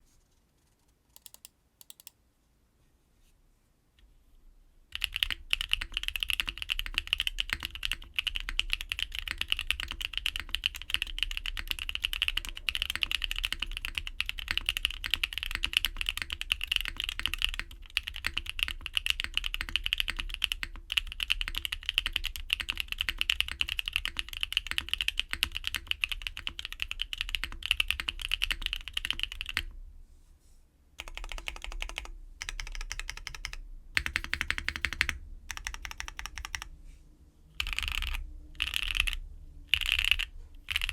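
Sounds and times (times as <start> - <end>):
fast mechanical keyboard typing: 5.0 - 29.7, 31.0 - 36.7, 37.6 - 40.9.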